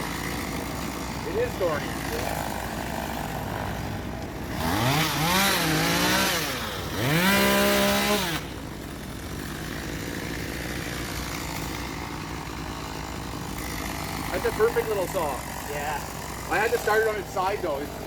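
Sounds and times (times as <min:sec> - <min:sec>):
chainsaw revving: 0:00.0 - 0:18.0.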